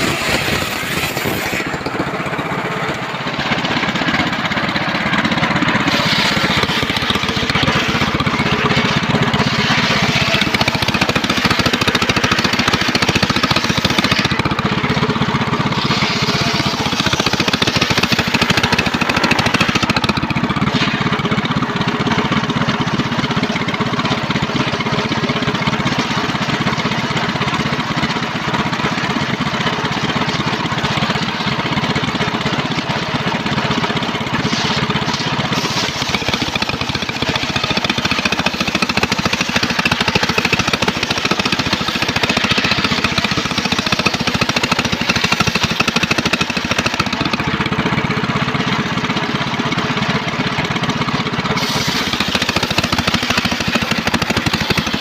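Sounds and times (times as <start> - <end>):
circular saw cutting wood: 0.0 - 26.2, 30.0 - 47.7, 51.5 - 55.0.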